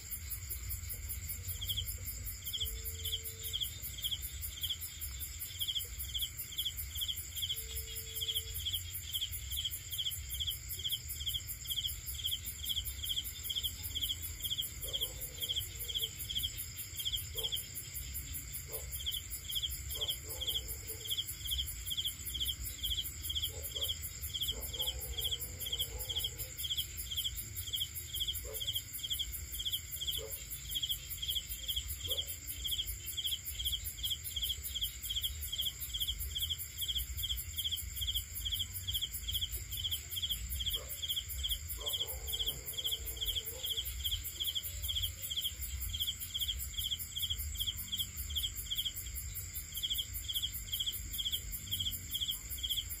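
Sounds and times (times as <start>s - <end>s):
high-pitched insect trill: 0.0s - 53.0s
insect chirping: 0.0s - 53.0s.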